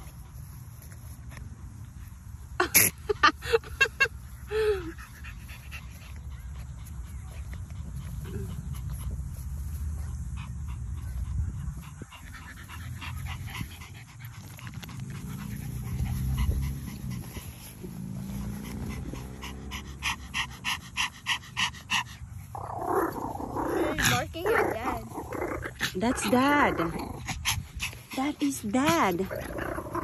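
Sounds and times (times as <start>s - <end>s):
dog panting: 4.5s - 22.8s, 23.8s - 30.0s.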